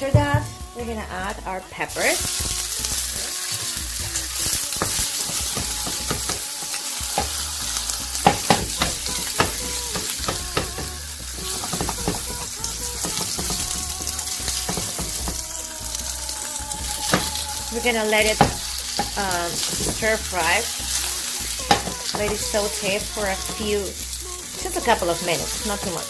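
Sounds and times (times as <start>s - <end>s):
vegetables sizzling in oil: 0.0s - 26.0s
oil popping: 1.9s - 26.0s.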